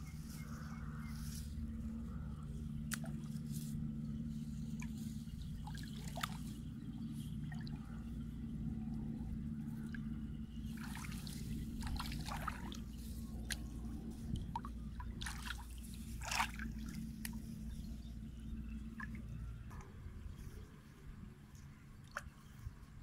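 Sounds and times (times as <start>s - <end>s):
muddy water trickling and splashing: 0.0s - 23.0s
steady low hum: 0.0s - 23.0s.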